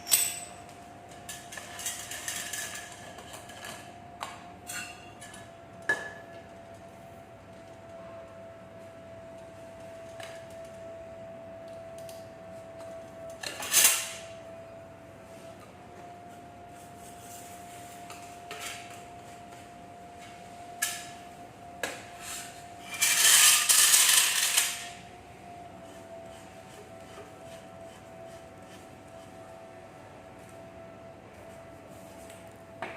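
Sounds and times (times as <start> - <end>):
steady high hum: 0.0 - 32.9.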